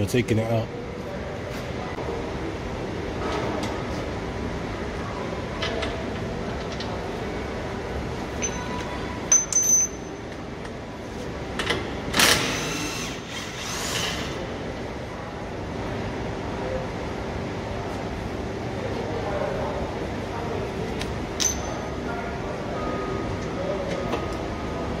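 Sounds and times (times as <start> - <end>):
workshop background noise: 0.0 - 25.0.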